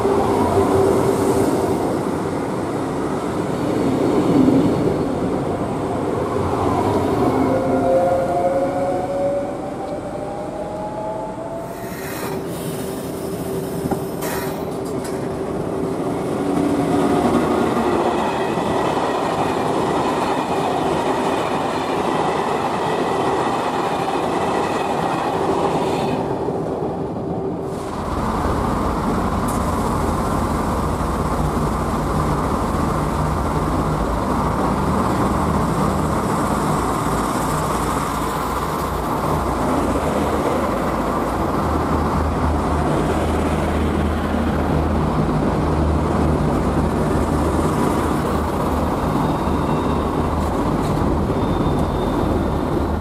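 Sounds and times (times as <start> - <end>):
passenger coaches rolling past: 0.0 - 53.0.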